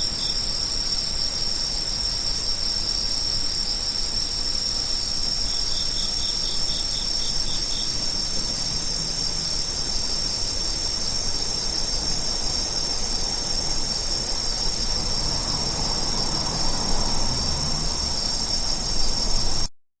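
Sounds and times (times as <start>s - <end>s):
insect chirping in pulses: 0.0s - 19.7s
insects trilling: 0.0s - 19.7s.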